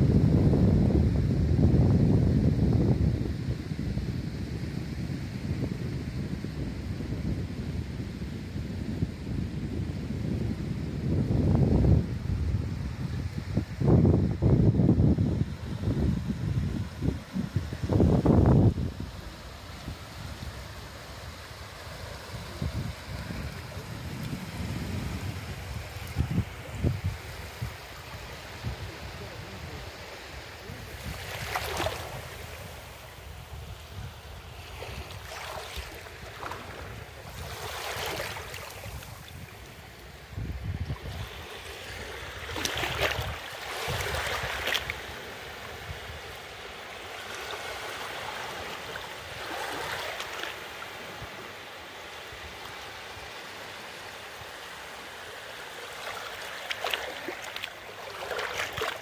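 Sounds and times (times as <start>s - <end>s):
sea waves washing onto beach: 1.1s - 59.0s.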